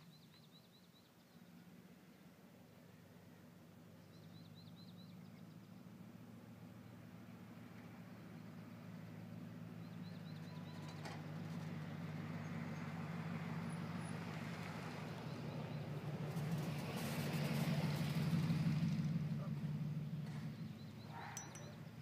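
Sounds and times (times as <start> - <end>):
vehicle engine humming: 4.1 - 22.0.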